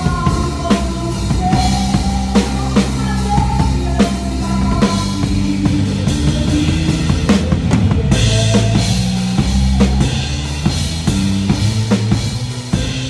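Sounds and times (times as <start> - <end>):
bass notes: 0.0 - 13.0.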